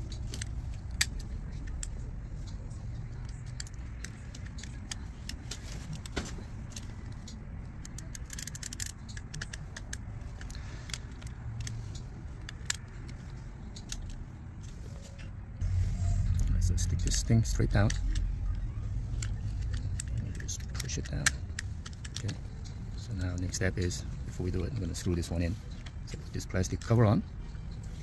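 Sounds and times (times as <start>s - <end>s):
plastic parts clicking and tapping: 0.0s - 2.6s, 3.2s - 14.8s, 16.9s - 27.2s
low background rumble: 0.0s - 28.0s.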